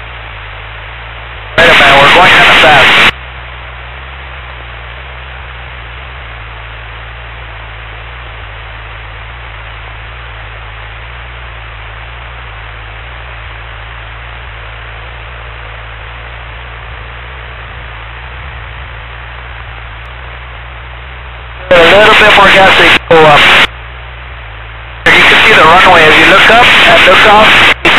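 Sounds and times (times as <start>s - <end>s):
aircraft cabin engine noise: 0.0s - 27.9s.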